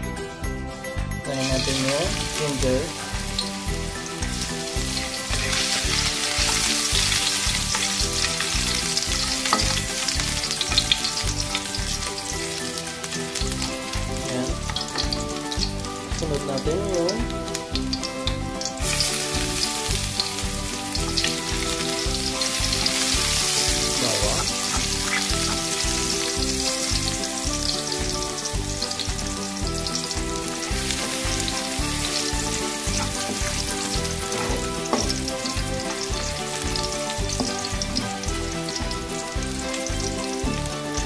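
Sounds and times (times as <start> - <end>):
background music with steady beat: 0.0 - 41.0
garlic sizzling in hot oil: 1.2 - 41.0.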